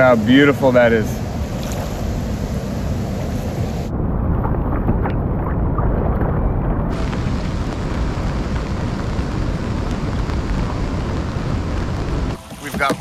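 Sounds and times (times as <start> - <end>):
heavy rushing water roaring: 0.0 - 13.0.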